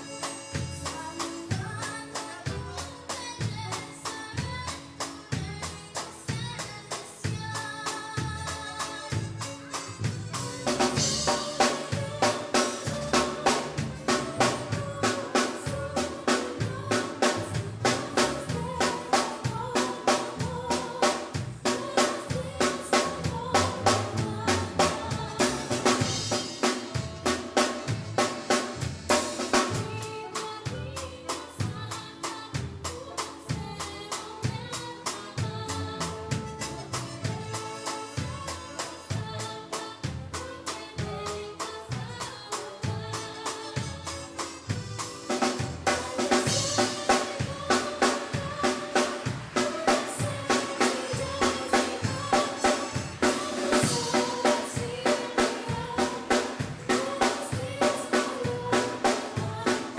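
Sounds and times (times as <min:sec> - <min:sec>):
fast drum beat: 0:00.0 - 0:59.9
live band playing: 0:00.0 - 0:59.9.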